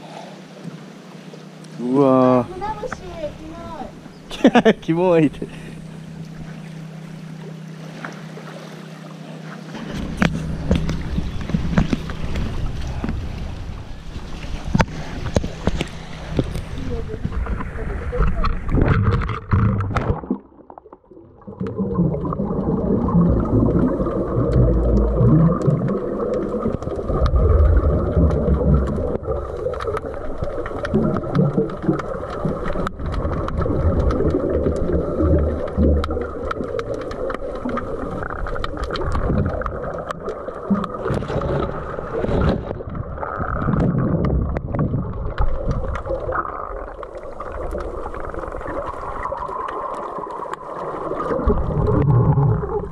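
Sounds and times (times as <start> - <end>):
underwater rumbling and gurgling: 0.0 - 52.9.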